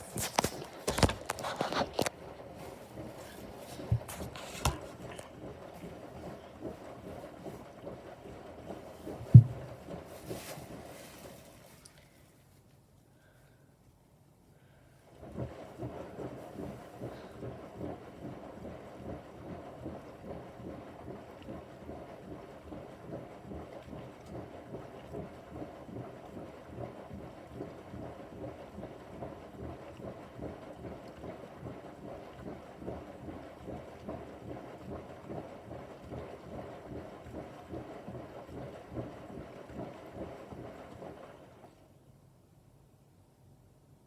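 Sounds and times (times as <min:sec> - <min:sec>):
washing machine churning water: 0:00.0 - 0:12.2, 0:14.7 - 0:42.1.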